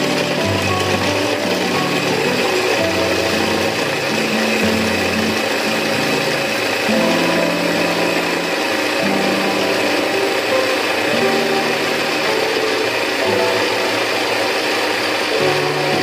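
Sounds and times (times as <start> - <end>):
electric food chopper running: 0.0 - 16.0.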